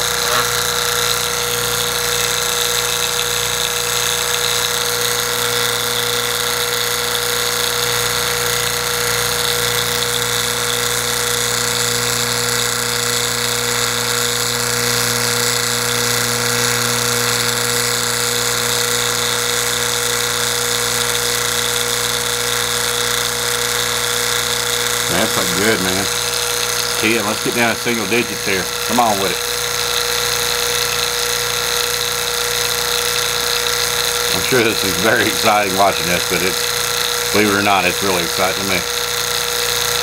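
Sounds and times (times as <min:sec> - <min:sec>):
vacuum pump motor humming: 0:00.0 - 0:40.0.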